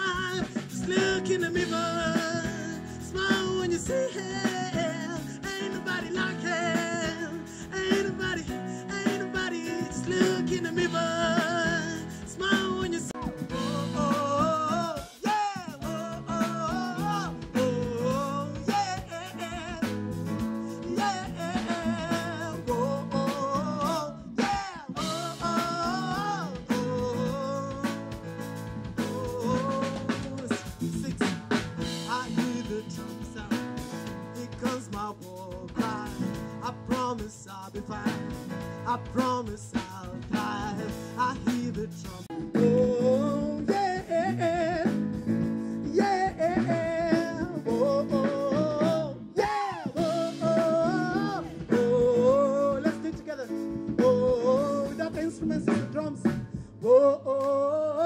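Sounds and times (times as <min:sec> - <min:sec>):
electric bass: 0:00.0 - 0:57.8
drum kit: 0:00.0 - 0:58.0
keyboard chords: 0:00.0 - 0:58.0
man singing: 0:00.0 - 0:58.0.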